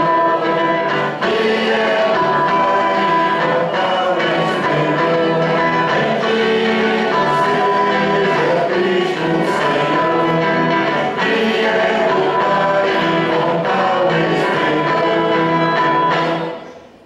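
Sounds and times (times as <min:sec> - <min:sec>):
choir singing a hymn: 0:00.0 - 0:16.7
instrumental accompaniment: 0:00.0 - 0:17.0.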